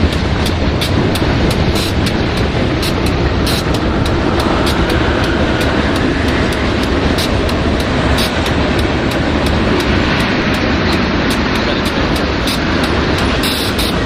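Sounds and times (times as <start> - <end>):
freight train rumbling past: 0.0 - 14.0
wheels clicking over rail joints: 0.0 - 14.0.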